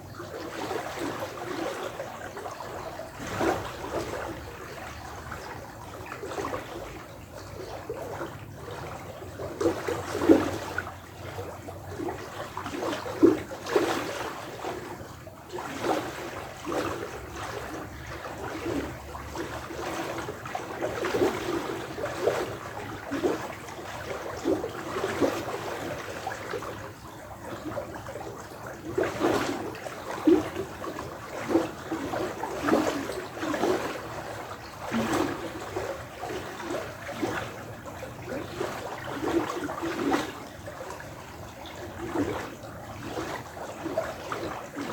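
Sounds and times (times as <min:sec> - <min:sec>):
bubbly plops and gurgles: 0:00.0 - 0:44.9
water trickling and splashing: 0:00.0 - 0:44.9.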